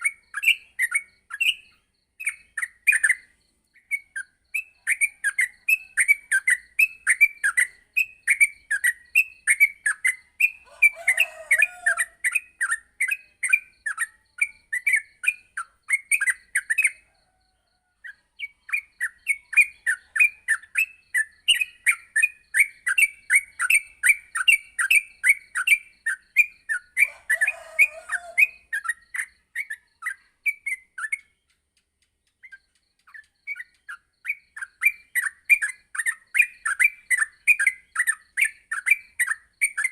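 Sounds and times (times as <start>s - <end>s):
bird singing fast chirps: 0.0s - 17.1s, 18.0s - 39.9s.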